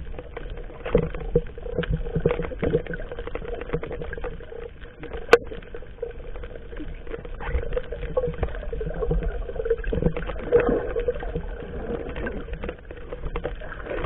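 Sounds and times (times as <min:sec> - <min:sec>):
water sounds: 0:00.0 - 0:14.0.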